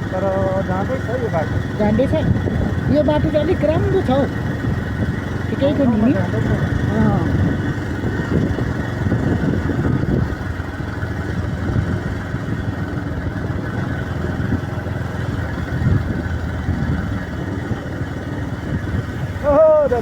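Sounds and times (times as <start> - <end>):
motorcycle running: 0.0 - 20.0.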